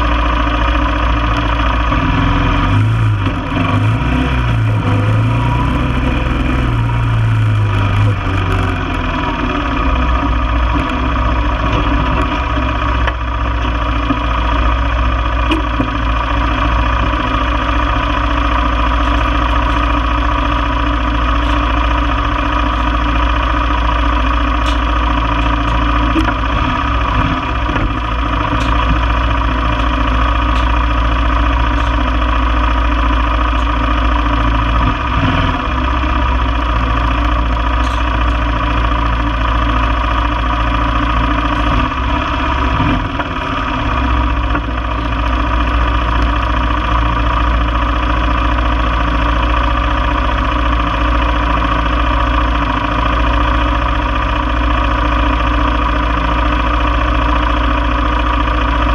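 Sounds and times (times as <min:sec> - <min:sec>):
four-wheeler engine idling: 0:00.0 - 0:58.9.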